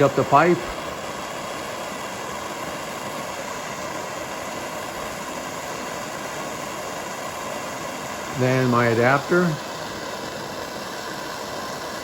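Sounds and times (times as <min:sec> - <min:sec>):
propane torch hissing: 0:00.0 - 0:12.0.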